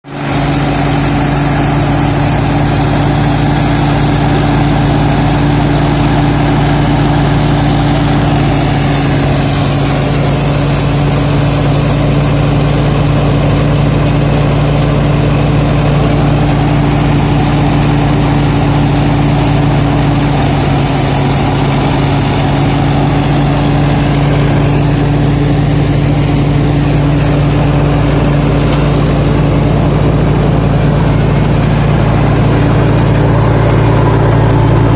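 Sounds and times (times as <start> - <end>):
combine harvester engine droning: 0.0 - 34.9.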